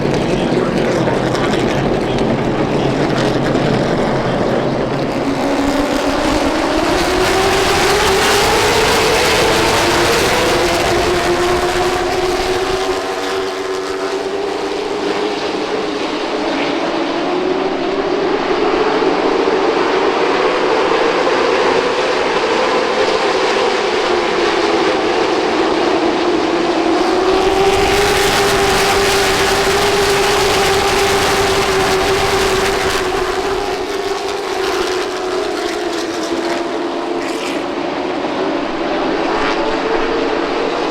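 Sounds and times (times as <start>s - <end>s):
stock car engines droning: 0.0s - 40.9s.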